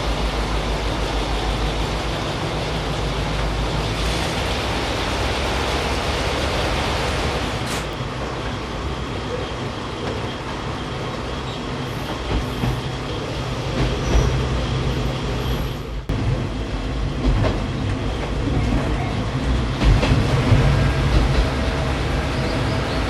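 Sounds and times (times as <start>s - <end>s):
railcar engine and wheels rumbling: 0.0s - 23.0s.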